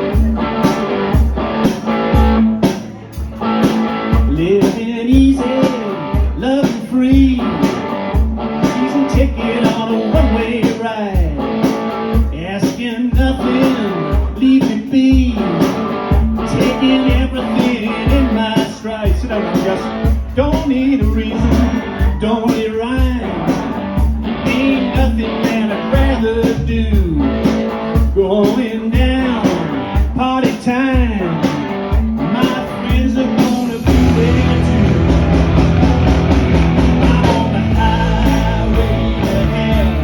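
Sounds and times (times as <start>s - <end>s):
electric guitar riff: 0.0s - 40.0s.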